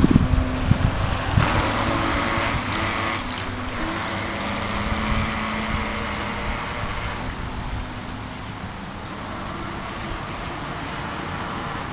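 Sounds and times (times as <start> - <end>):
toy boat motor whine: 0.9 - 11.9.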